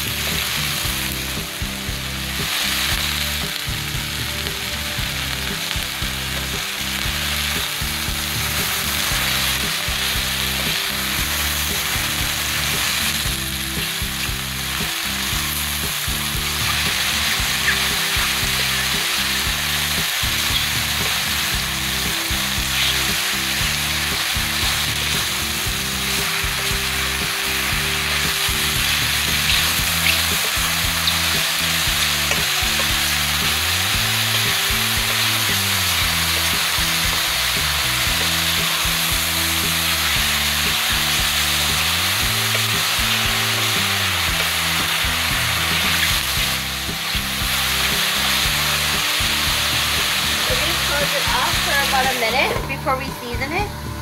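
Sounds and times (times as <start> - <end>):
mushrooms sizzling in a pan: 0.0 - 54.0.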